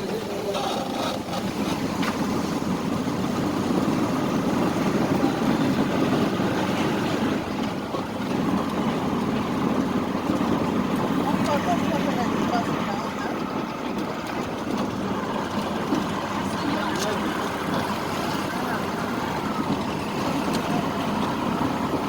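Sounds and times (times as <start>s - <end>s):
engine rumbling: 0.0s - 22.0s
street noise: 0.0s - 22.0s.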